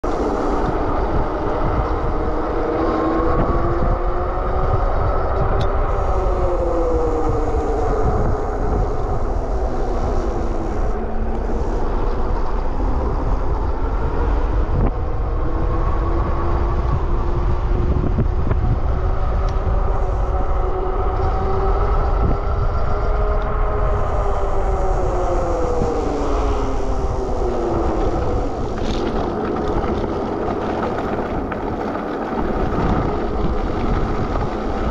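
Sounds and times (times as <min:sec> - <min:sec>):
electric bike drive whine: 0:00.0 - 0:34.9
wind buffeting microphone: 0:00.0 - 0:34.9.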